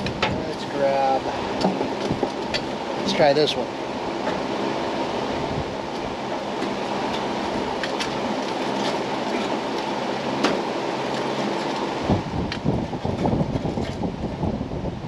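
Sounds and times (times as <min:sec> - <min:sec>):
steady rumbling: 0:00.0 - 0:15.0.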